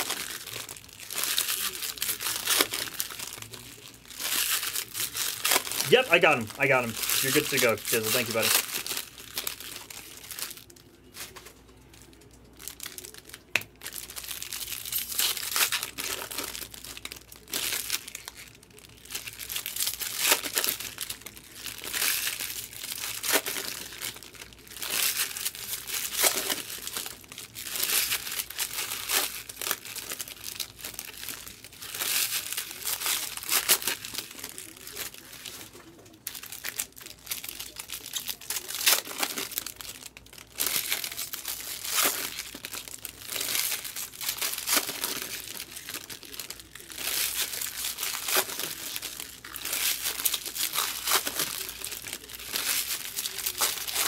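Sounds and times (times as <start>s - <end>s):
plastic wrapping crinkling and tearing: 0.0s - 54.0s.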